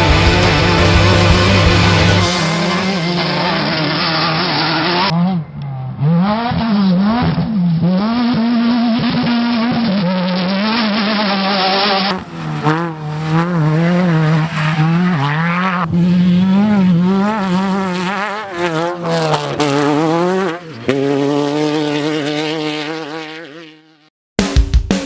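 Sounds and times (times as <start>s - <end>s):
race vehicle engine running hard: 0.0s - 23.8s.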